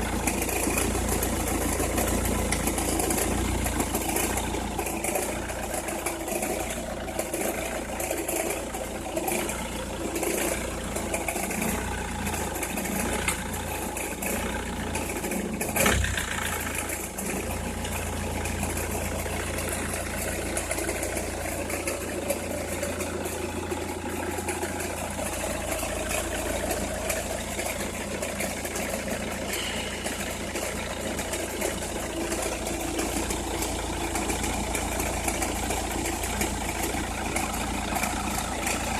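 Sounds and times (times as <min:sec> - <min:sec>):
car engine idling with crackling: 0:00.0 - 0:38.9.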